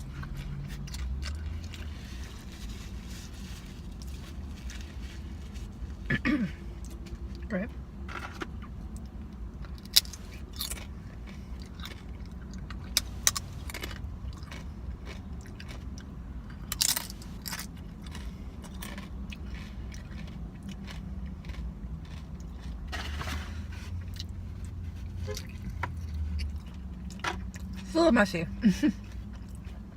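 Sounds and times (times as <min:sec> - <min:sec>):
chewing and crunching food: 0:00.0 - 0:06.1, 0:08.2 - 0:27.8, 0:28.8 - 0:29.9.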